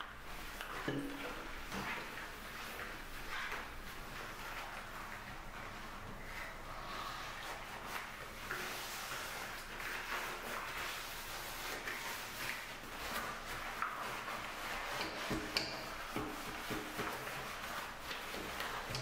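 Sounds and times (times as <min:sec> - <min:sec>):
cloth squeezed in soapy water: 0:00.0 - 0:19.0
scrubbing and wiping washbasin: 0:00.0 - 0:19.0.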